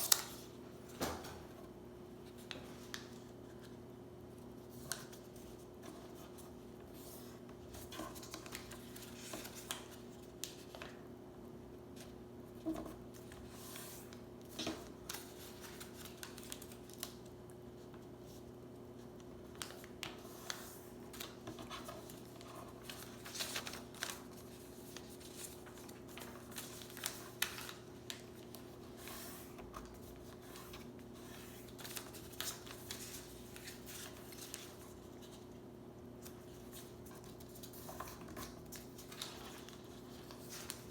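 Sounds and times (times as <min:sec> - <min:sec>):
paper rustling and crinkling: 0:04.6 - 0:11.0, 0:12.0 - 0:18.4, 0:19.2 - 0:35.5, 0:36.2 - 0:40.9.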